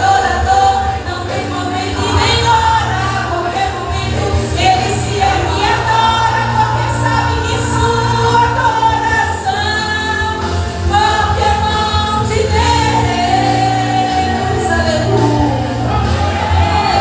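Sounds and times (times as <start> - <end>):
instrumental accompaniment: 0.0 - 17.0
vocal group singing a hymn: 0.0 - 17.0.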